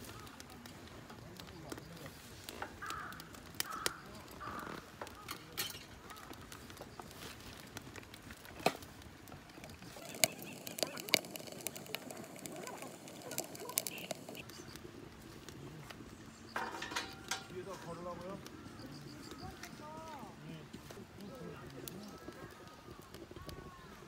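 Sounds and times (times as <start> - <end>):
sharp pops of fire: 0.0 - 24.0
wood fire crackling: 0.0 - 24.0.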